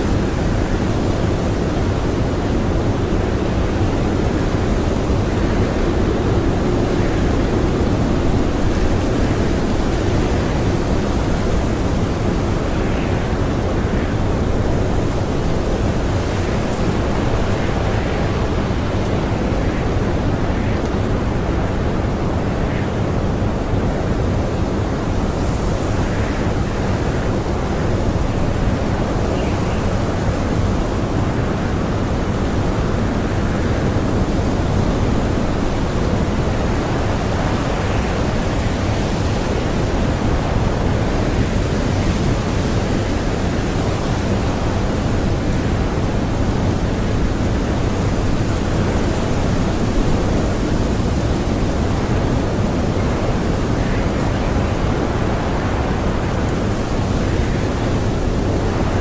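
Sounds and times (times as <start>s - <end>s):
blizzard wind blowing: 0.0s - 59.0s.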